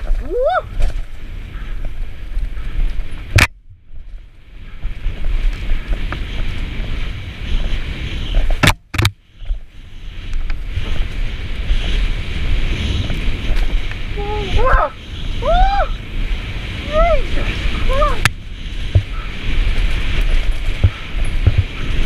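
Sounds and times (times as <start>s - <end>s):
bike tyre rumble on dirt: 0.0s - 22.0s
wind rushing over microphone: 0.0s - 22.0s.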